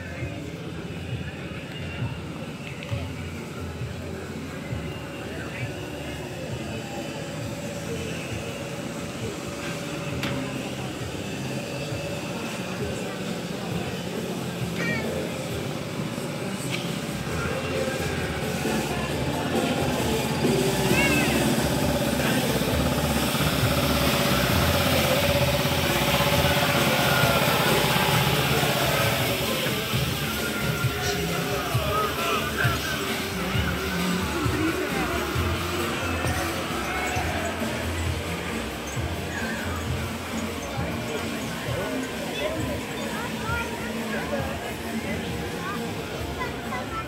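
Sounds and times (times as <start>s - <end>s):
engine idling: 0.0s - 47.0s
faint distant voices: 0.0s - 47.0s.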